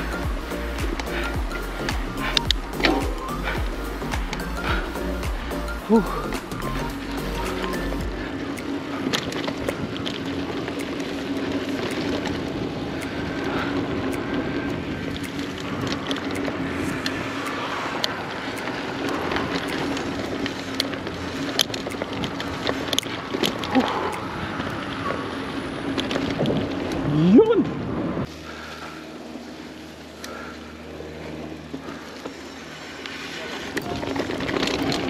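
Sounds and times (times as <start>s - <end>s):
bicycle rolling on dirt trail: 0.0s - 35.0s
bike clicks and rattles: 0.0s - 35.0s.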